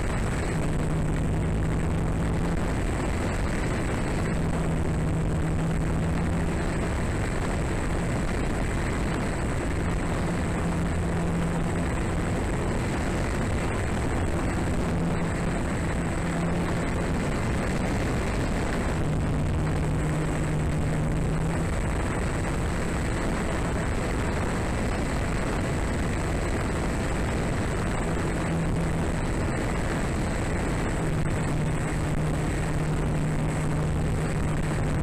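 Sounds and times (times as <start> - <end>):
propeller and motor drone: 0.0 - 35.0
wind rushing over microphone: 0.0 - 35.0.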